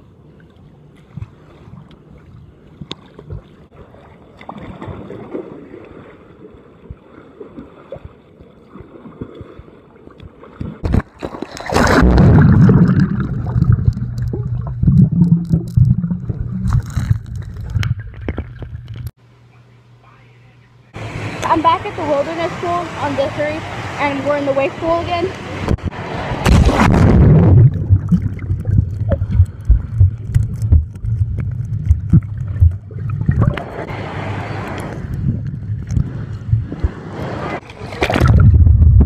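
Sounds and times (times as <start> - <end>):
muffled water sloshing and gurgling: 0.0 - 19.2, 21.0 - 39.0.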